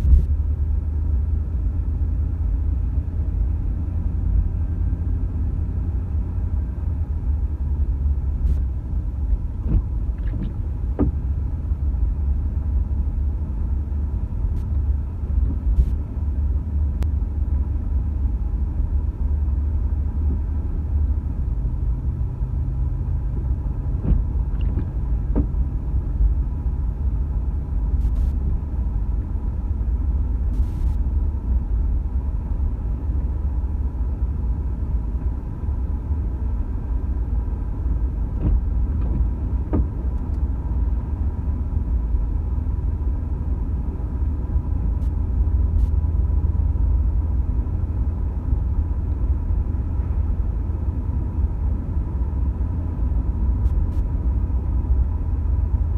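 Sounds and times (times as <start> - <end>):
car driving rumble from inside: 0.0 - 55.9
low hum: 0.0 - 55.9.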